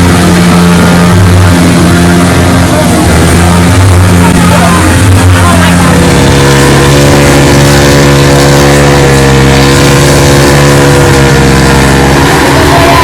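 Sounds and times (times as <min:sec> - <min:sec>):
engine at high revs: 0:00.0 - 0:13.0.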